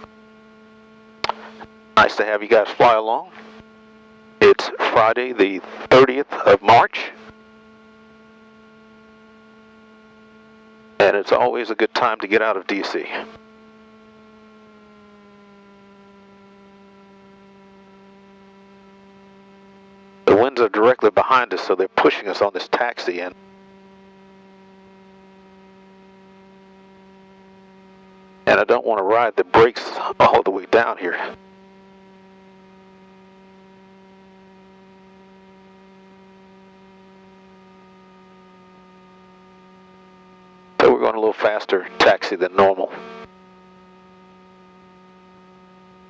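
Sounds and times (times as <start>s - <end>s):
twin piston engines droning: 0.0s - 46.0s.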